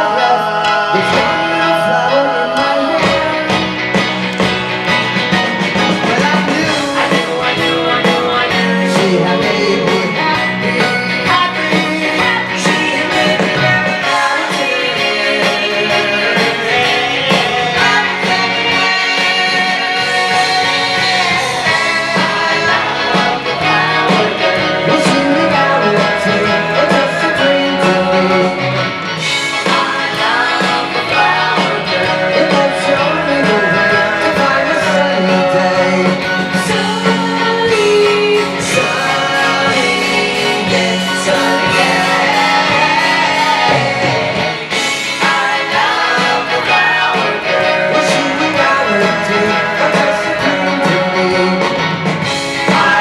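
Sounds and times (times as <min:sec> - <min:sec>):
person singing: 0:00.0 - 0:03.7, 0:05.8 - 0:28.8, 0:29.4 - 0:53.0
guitar: 0:00.0 - 0:53.0
live pop-rock band: 0:00.0 - 0:53.0.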